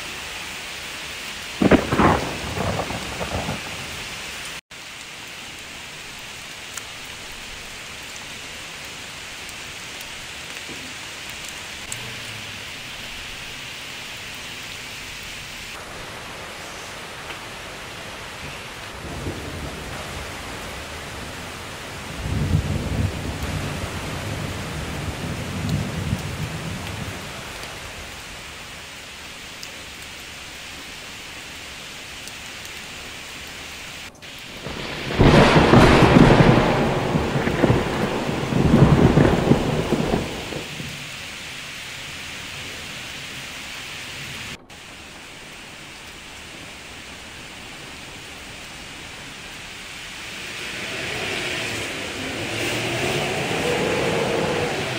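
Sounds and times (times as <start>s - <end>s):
rain hissing: 0.0s - 54.9s
thunder rumbling: 1.0s - 4.6s, 5.7s - 31.7s, 32.8s - 54.9s.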